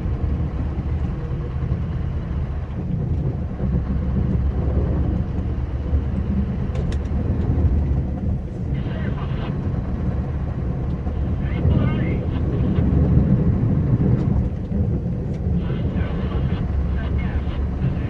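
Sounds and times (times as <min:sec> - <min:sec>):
road and plow noise: 0:00.0 - 0:18.0
truck diesel engine droning: 0:00.0 - 0:18.0.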